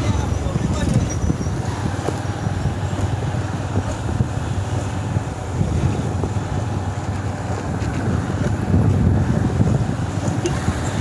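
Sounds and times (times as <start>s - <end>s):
road noise: 0.0s - 11.0s
wind rushing over microphone: 0.0s - 11.0s.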